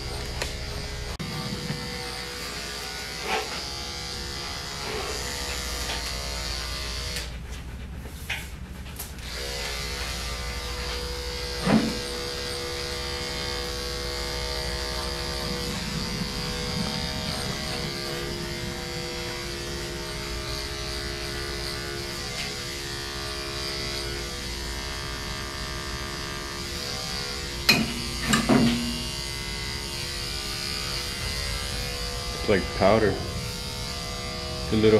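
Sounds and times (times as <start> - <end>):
electric clipper motor hum: 0.0 - 7.3, 9.2 - 34.9.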